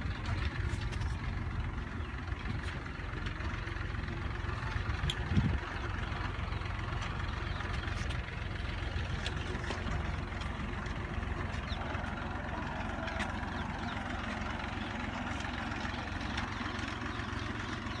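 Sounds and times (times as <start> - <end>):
tractor engine rumbling: 0.0 - 18.0.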